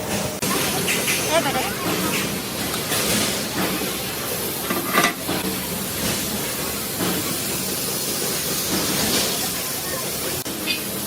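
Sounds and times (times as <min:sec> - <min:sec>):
hissing workshop noise: 0:00.0 - 0:11.0.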